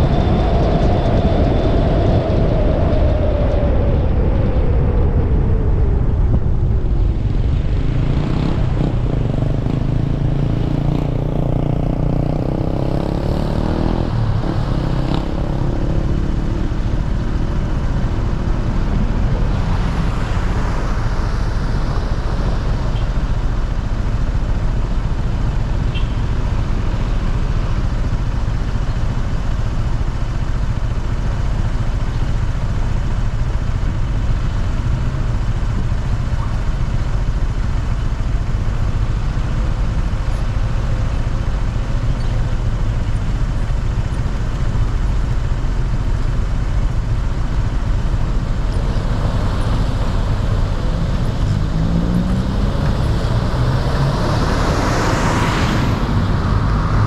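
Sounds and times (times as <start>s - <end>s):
idling engines and traffic: 0.0s - 57.0s.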